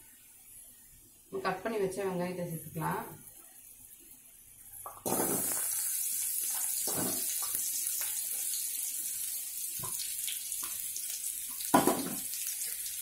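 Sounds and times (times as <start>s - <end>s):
onions sizzling in hot oil: 1.5s - 13.0s.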